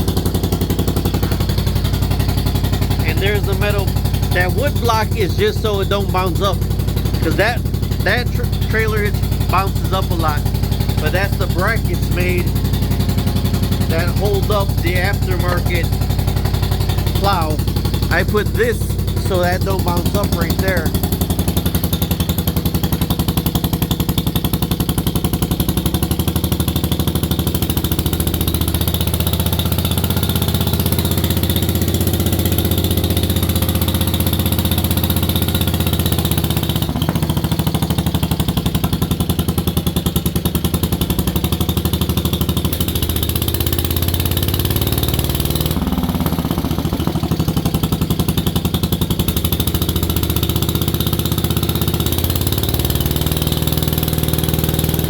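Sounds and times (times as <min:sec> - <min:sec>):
lawn tractor engine idling: 0:00.0 - 0:55.0.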